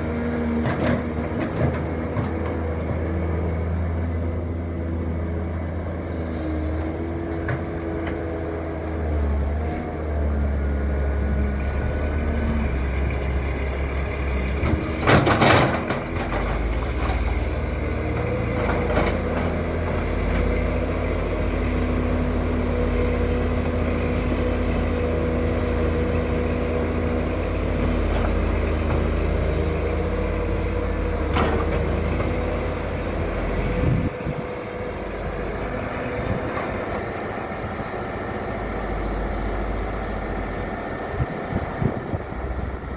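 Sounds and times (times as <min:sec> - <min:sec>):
diesel engine rumbling: 0:00.0 - 0:42.9.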